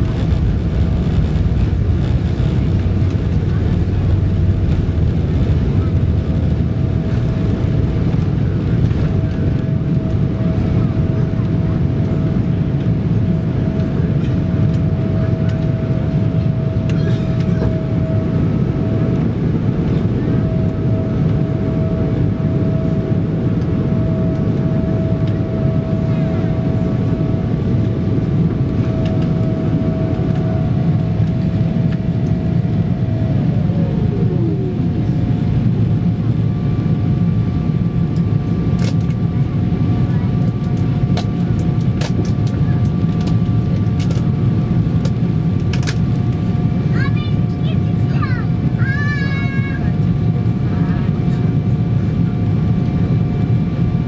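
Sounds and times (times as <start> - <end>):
airplane cabin engine rumble: 0.0 - 54.0
engine whine: 0.0 - 54.0.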